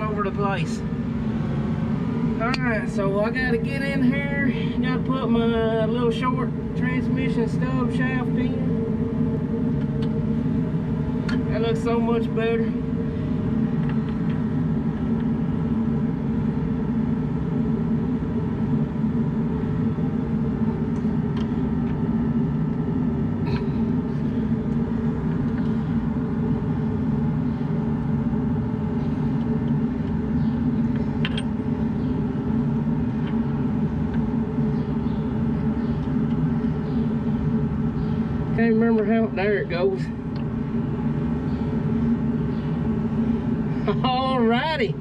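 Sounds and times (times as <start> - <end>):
heater droning: 0.0 - 45.0.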